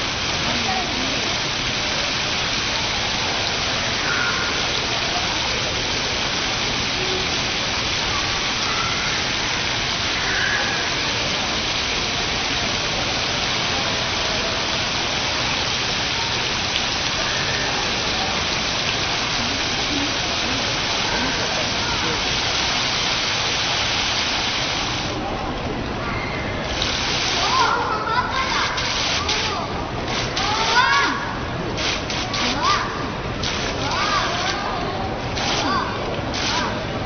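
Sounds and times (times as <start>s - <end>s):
water falling in a rush: 0.0s - 37.0s.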